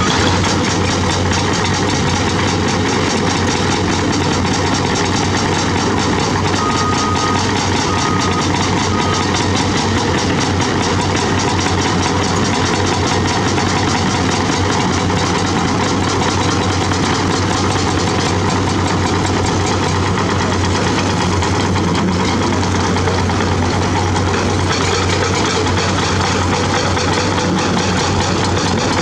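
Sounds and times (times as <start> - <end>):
diesel engines droning: 0.0 - 29.0.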